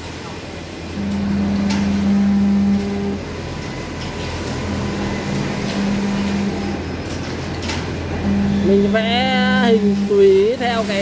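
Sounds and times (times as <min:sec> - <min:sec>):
steady electrical hum: 0:00.0 - 0:11.0
feed motors whining: 0:00.5 - 0:07.1, 0:07.9 - 0:10.9.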